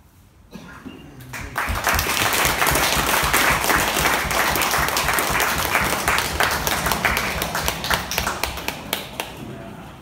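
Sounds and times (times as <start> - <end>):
audience applauding: 1.3 - 9.4.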